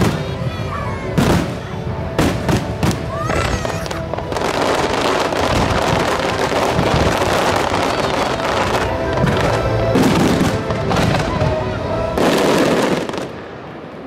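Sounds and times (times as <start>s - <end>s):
firework bangs: 0.0s - 14.0s
firework crackle: 0.0s - 14.0s.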